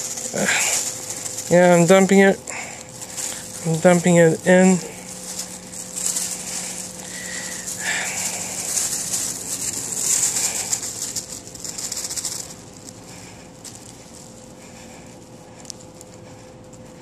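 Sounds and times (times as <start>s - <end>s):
plastic bin rustling and crackling: 0.0s - 14.5s.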